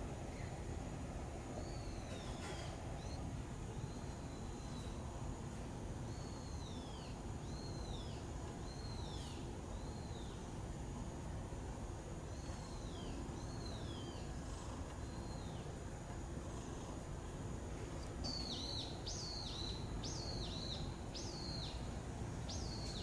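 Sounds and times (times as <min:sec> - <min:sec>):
low background noise: 0:00.0 - 0:23.0.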